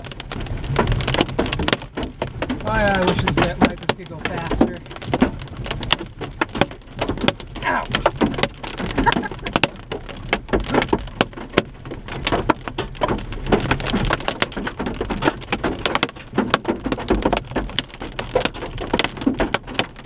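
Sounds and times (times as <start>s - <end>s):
hail clattering on a car: 0.0s - 20.0s
rain-like hiss: 0.0s - 20.0s.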